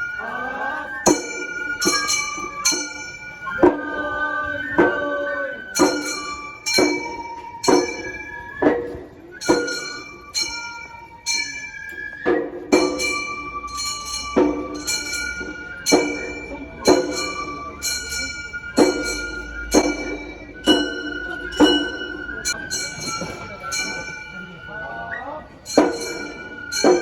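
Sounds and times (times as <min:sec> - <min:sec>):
high flute note: 0:00.0 - 0:27.0
metal hand gongs ringing: 0:01.1 - 0:03.6, 0:05.8 - 0:08.4, 0:09.4 - 0:24.7, 0:25.6 - 0:27.0.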